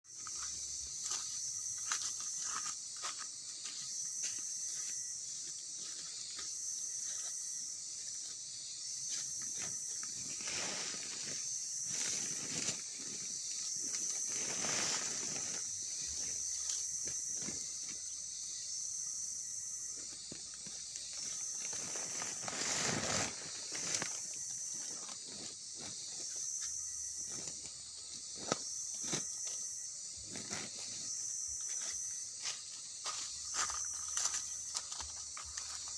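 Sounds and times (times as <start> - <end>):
steady high hiss: 0.1 - 35.9.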